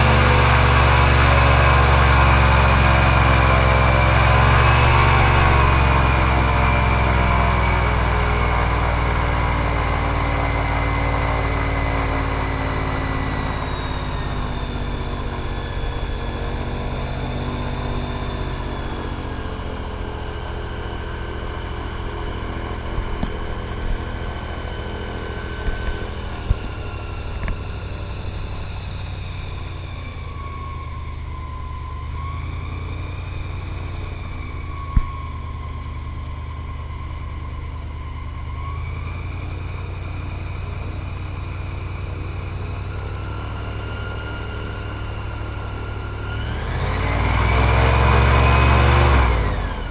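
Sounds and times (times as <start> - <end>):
airboat engine and propeller: 0.0 - 49.9.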